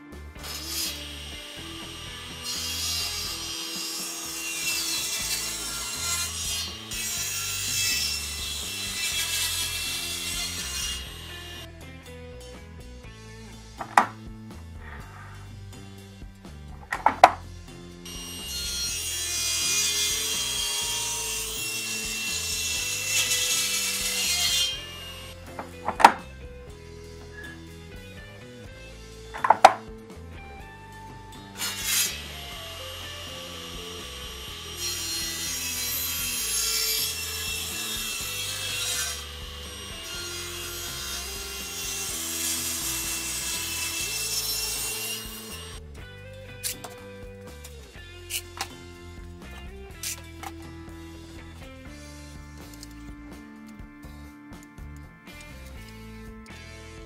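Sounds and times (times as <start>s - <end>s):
table saw cutting wood: 0.0s - 11.7s, 13.6s - 15.9s, 16.8s - 53.6s
background music: 0.0s - 57.0s
saw blade running: 0.3s - 11.7s, 16.8s - 45.9s, 46.6s - 53.0s.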